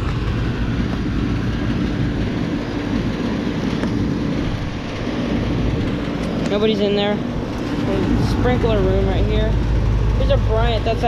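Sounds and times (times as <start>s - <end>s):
air conditioners humming: 0.0s - 11.0s.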